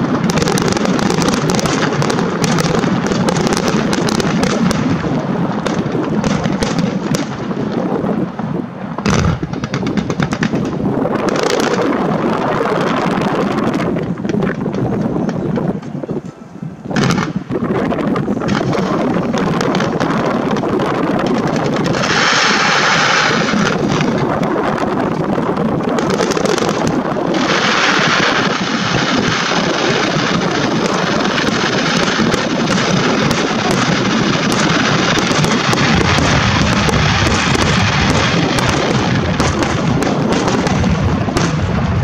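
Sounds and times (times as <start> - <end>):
fireworks bursting and crackling: 0.0 - 42.0
low fireworks booms: 0.0 - 42.0.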